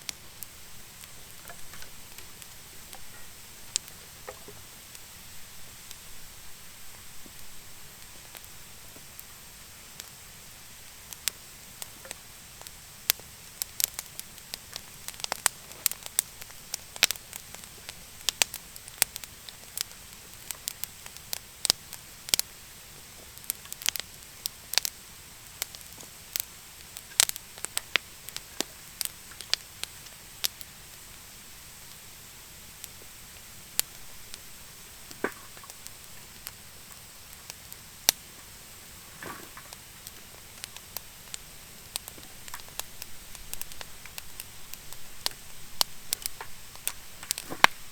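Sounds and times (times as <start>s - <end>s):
wood fire crackling and popping: 0.0s - 6.1s, 6.8s - 47.9s
faint steady hiss: 0.0s - 47.9s.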